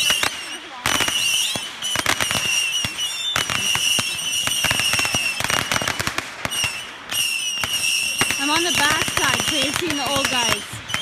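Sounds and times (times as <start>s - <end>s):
firecrackers cracking and popping: 0.0s - 11.0s
fireworks whistling: 0.0s - 11.0s.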